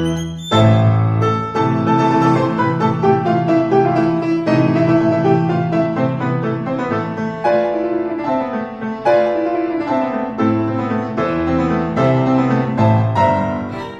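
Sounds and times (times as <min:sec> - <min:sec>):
slow piano melody with chords: 0:00.0 - 0:13.9.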